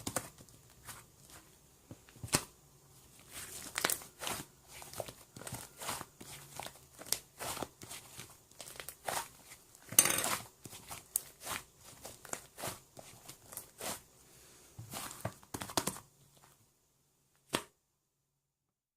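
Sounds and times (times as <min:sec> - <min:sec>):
crinkling and rustling: 0:00.0 - 0:14.0, 0:14.8 - 0:16.6.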